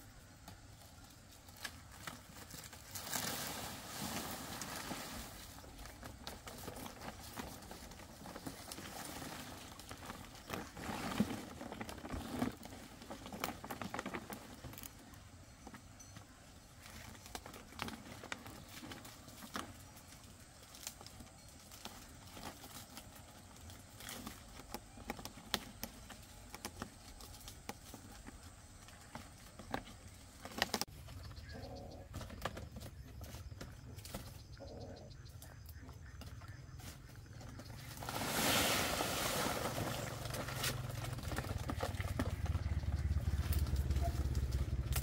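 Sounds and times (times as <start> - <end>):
palm leaves rustling and scraping: 0.0 - 45.0.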